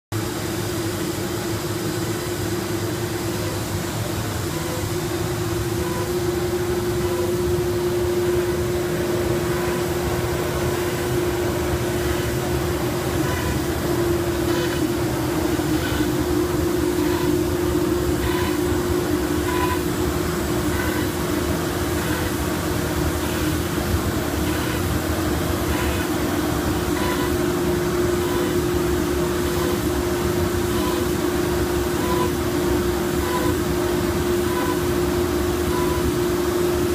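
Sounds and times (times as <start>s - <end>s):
router spindle hum: 0.3s - 36.9s.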